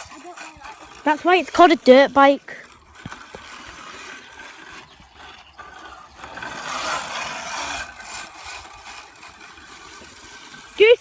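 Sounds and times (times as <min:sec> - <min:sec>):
dirt bike tyre churning through dirt: 0:00.0 - 0:11.0.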